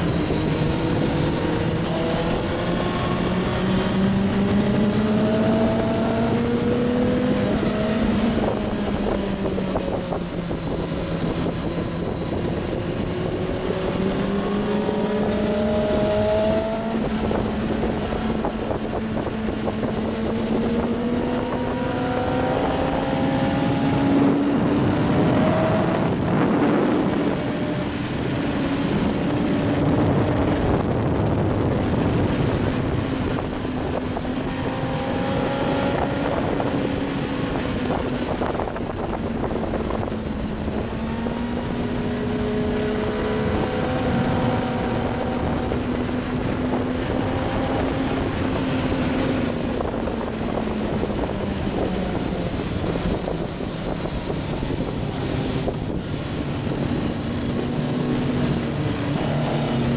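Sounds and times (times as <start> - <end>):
motorcycle engine pulling hard: 0.0 - 59.9
wind on microphone: 0.0 - 59.9.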